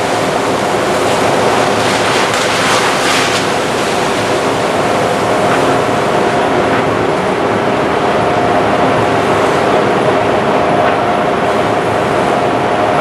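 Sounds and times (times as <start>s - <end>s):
loud rushing noise: 0.0s - 13.0s
street sweeper engine hum: 0.0s - 13.0s.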